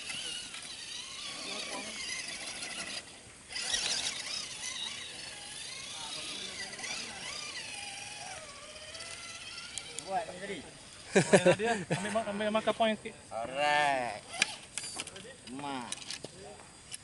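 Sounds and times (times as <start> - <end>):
electric motor and gears whining: 0.0 - 11.5, 12.1 - 16.3.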